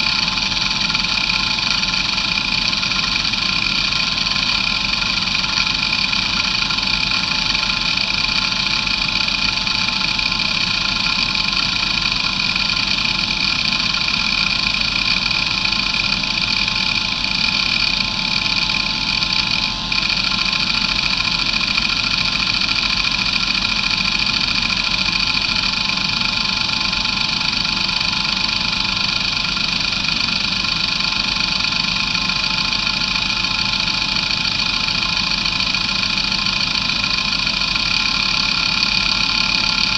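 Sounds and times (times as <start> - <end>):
hard drive whine: 0.0 - 39.9.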